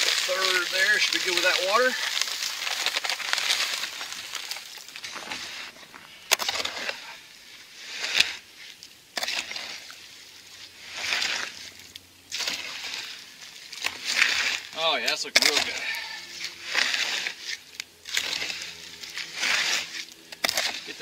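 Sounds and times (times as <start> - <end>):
dry concrete mix pouring into water: 0.0 - 21.0
hoe scraping through wet mix: 0.0 - 21.0.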